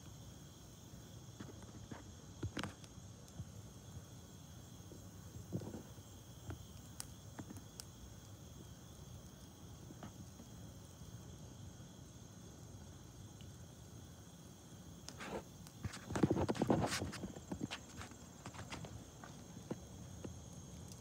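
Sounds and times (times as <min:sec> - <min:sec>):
crickets chirring: 0:00.0 - 0:21.0
wood fire crackling and popping: 0:00.8 - 0:21.0.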